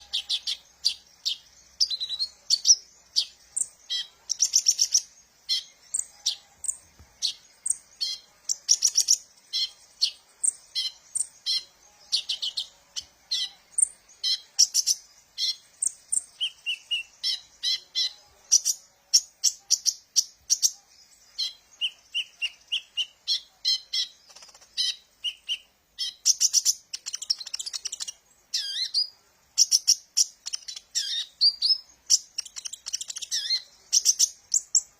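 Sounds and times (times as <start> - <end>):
bird chirping and singing: 0.0 - 34.9.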